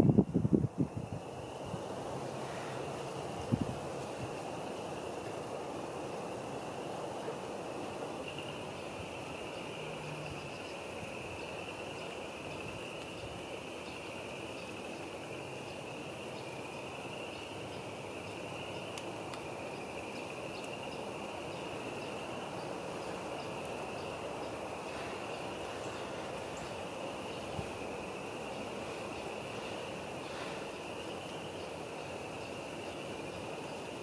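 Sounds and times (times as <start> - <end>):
low rush of distant noise: 0.0 - 34.0.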